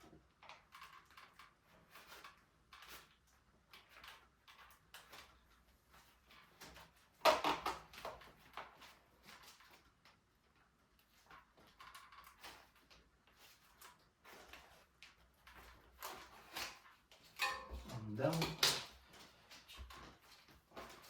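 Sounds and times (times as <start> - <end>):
packaging rustling and crinkling: 0.3 - 21.0.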